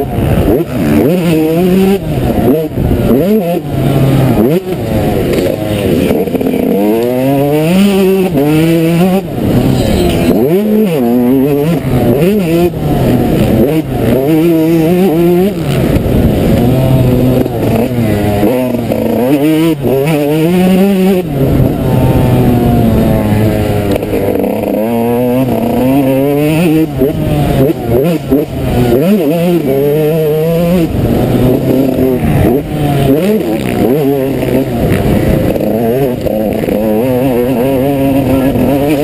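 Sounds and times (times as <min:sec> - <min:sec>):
two-stroke motorbike engine revving: 0:00.0 - 0:39.0.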